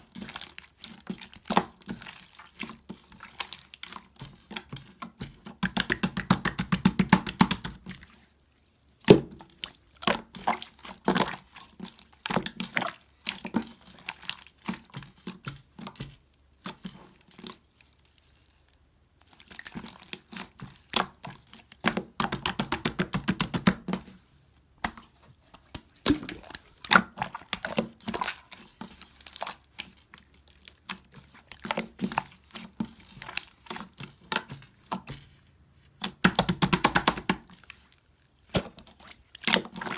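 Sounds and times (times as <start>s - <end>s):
hands squishing slime: 0.0s - 8.3s, 8.9s - 35.3s, 36.0s - 39.9s.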